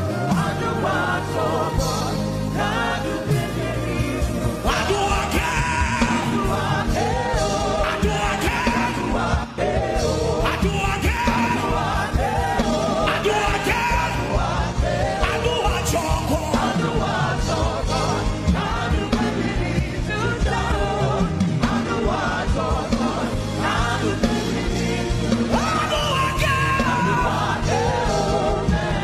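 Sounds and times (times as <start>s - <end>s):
live band playing: 0.0s - 29.0s.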